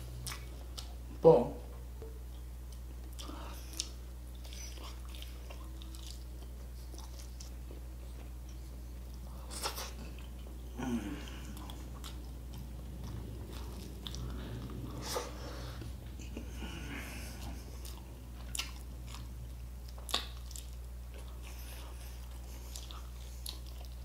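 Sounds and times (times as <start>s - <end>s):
steady low hum: 0.0s - 24.0s
person chewing food: 0.1s - 1.1s, 2.3s - 24.0s.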